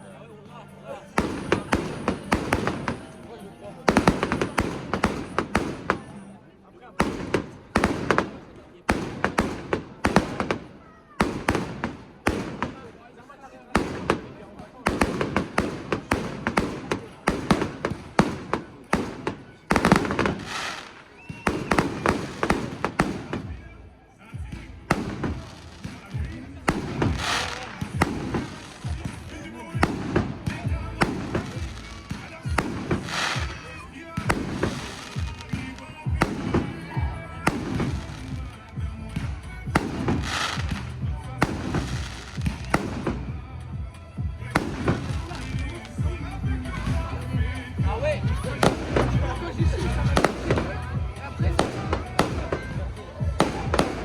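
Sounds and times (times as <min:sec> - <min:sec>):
fireworks bangs and pops: 0:01.1 - 0:23.8, 0:24.4 - 0:54.0.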